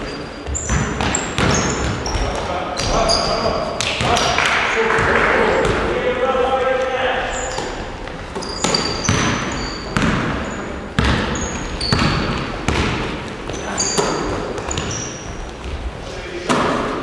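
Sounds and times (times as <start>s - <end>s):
sneakers squeaking on court: 0.0s - 4.4s, 7.2s - 16.8s
basketballs bouncing on gym floor: 0.0s - 6.0s, 7.3s - 17.0s.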